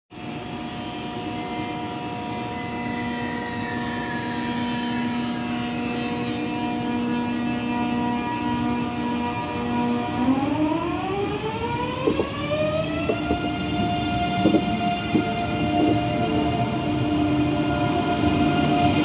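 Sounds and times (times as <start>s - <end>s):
electric train humming: 0.2s - 19.0s
whines gliding downward: 2.7s - 19.0s.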